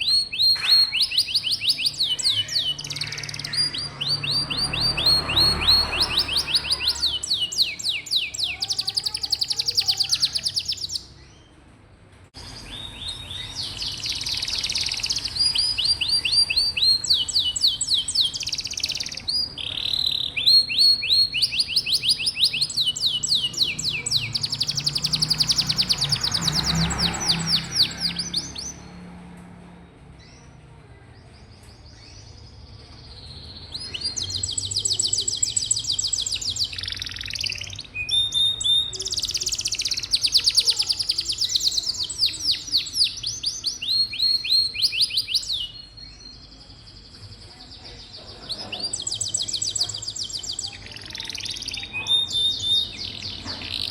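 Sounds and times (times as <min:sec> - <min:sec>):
canary singing trills: 0:00.0 - 0:11.5, 0:12.4 - 0:29.3, 0:31.3 - 0:53.9.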